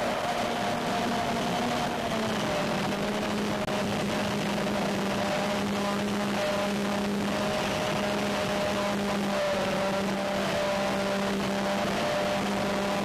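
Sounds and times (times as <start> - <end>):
electric motors and propellers: 0.0 - 13.0.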